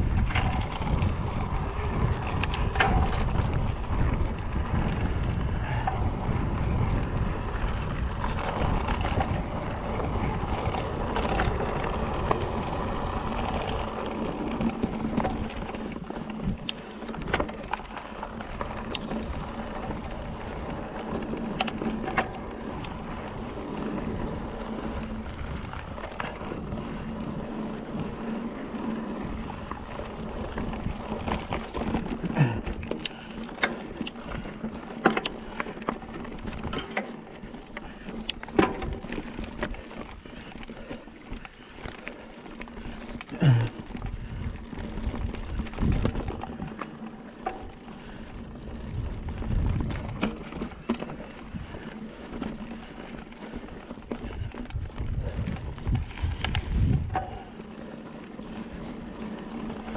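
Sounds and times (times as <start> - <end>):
wind buffeting microphone: 0.0 - 34.8, 42.8 - 46.8, 47.6 - 57.8
bike rattles and knocks: 0.0 - 59.9
tyres rolling on gravel: 0.0 - 59.9.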